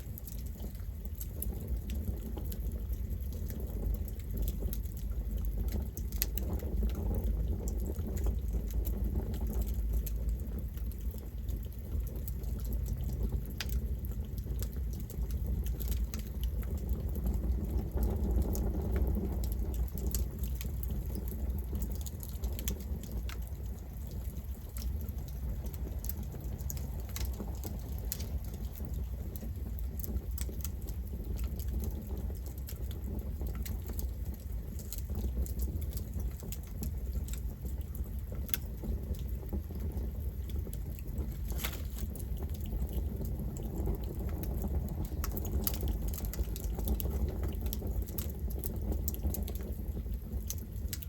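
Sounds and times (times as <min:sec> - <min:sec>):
burning wood crackling and popping: 0:00.0 - 0:51.0
campfire flames rushing: 0:00.0 - 0:51.0.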